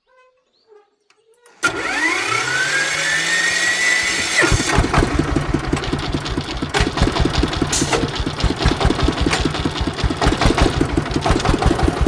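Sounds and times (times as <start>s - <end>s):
engine starter whine: 1.5s - 12.0s
engine running: 1.6s - 12.0s.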